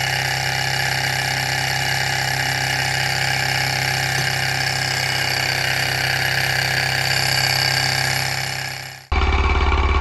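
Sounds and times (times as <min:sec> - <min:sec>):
stirling engine mechanical clatter: 0:00.0 - 0:10.0.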